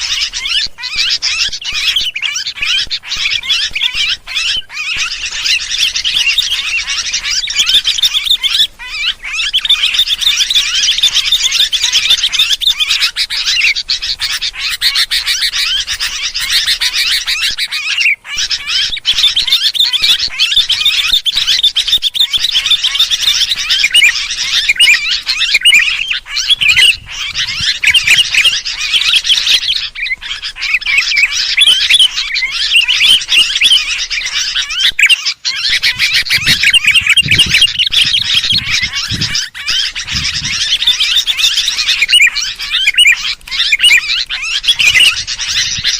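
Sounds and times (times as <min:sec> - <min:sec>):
birds chattering calls: 0:00.0 - 0:45.9.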